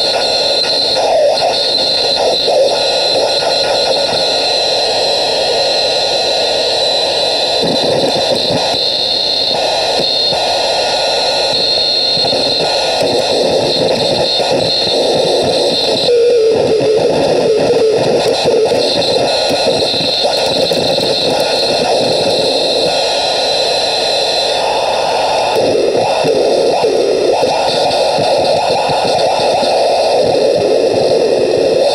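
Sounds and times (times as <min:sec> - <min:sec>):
crackling radio static hiss: 0:00.0 - 0:31.9
steady high whine: 0:00.0 - 0:31.9.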